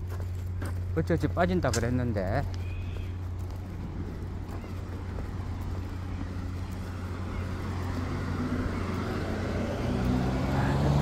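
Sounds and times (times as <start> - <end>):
tyre and road noise: 0.0 - 11.0
vehicle engine hum: 0.0 - 11.0.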